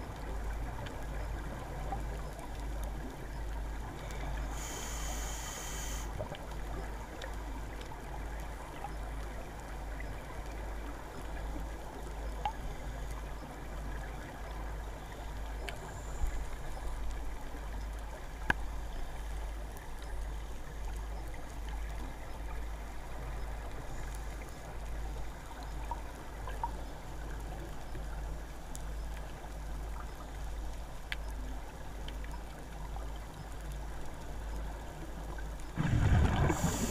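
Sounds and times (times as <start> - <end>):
underwater rumble and hiss: 0.0 - 36.9
faint clicks: 0.1 - 35.8.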